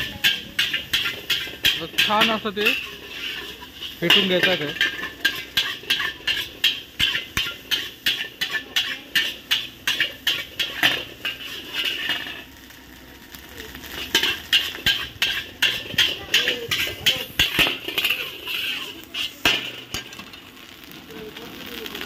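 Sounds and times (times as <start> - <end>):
metal spatula scraping a wok: 0.0 - 12.7, 13.8 - 20.6.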